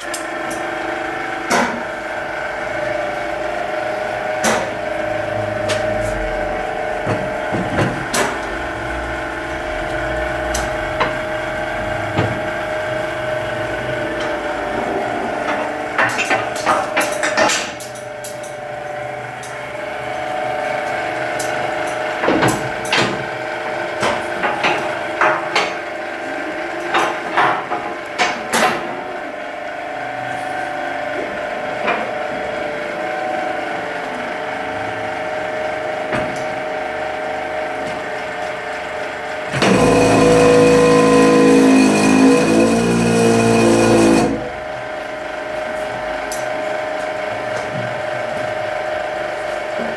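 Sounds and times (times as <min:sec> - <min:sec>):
hydraulic pump running: 0:00.0 - 0:49.9.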